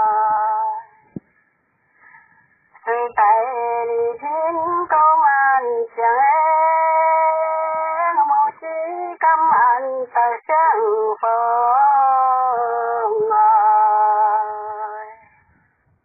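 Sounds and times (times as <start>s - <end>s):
person singing unaccompanied: 0.0s - 1.3s, 2.7s - 15.4s.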